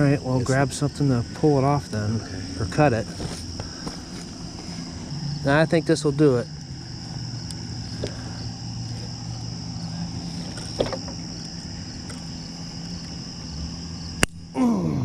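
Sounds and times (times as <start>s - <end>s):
distant traffic hum: 0.0s - 14.6s
insect buzzing: 0.0s - 15.0s.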